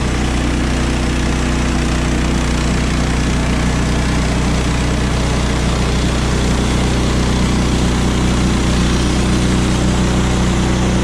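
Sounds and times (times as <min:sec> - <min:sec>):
small gas engine running: 0:00.0 - 0:11.0.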